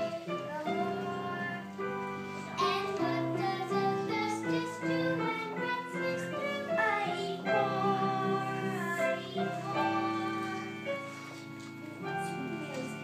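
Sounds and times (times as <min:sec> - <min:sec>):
children singing: 0:00.0 - 0:01.8, 0:02.5 - 0:11.2
musical accompaniment: 0:00.0 - 0:13.0.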